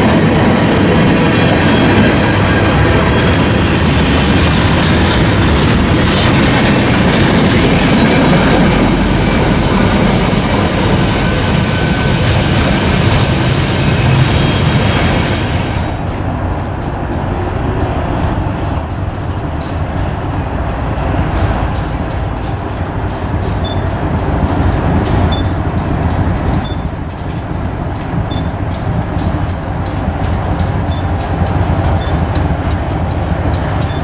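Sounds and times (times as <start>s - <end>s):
train passing: 0.0s - 34.0s
wheels clacking on rails: 0.0s - 34.0s.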